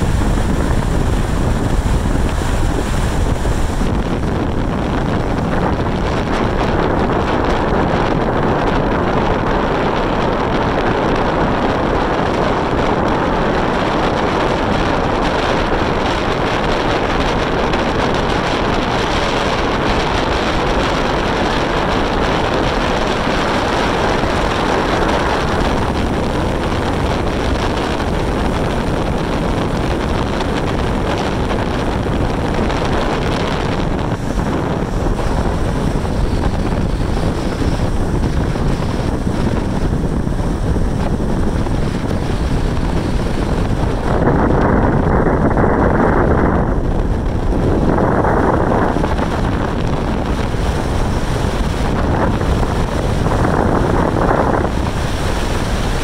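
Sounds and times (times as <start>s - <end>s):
car road noise: 0.0s - 56.0s
wind buffeting microphone: 0.0s - 56.0s.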